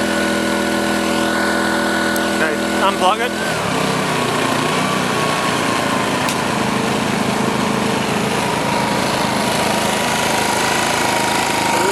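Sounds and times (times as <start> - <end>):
petrol generator running: 0.0 - 11.9.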